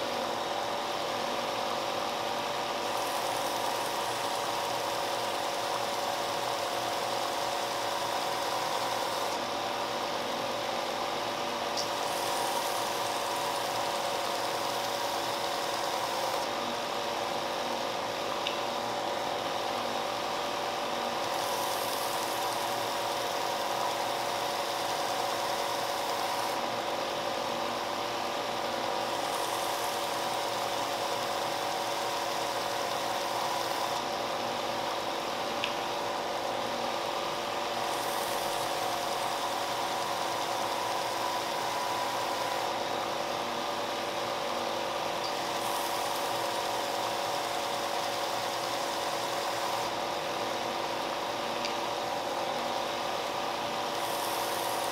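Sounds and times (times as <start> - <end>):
sander motor hum: 0.0 - 54.9.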